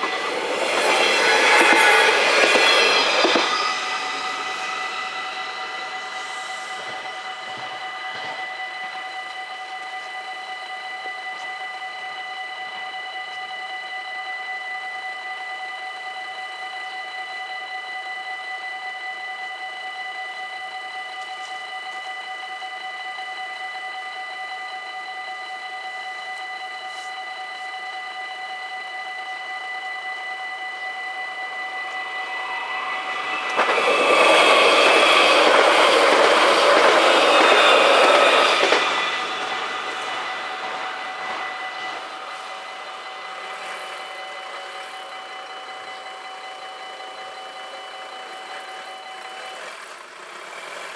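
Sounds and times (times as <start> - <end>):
electric train passing: 0.0 - 50.9
level-crossing warning bells: 0.0 - 50.9.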